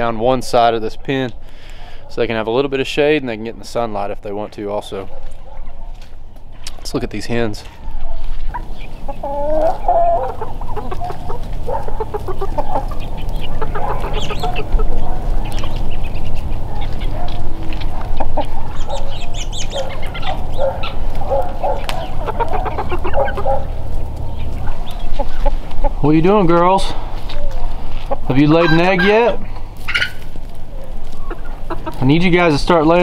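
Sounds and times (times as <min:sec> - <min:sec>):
hens clucking: 0:00.0 - 0:33.0.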